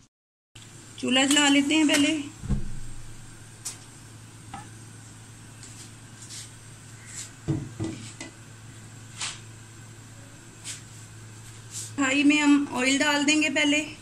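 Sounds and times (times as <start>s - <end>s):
steady low hum: 0.6s - 14.0s.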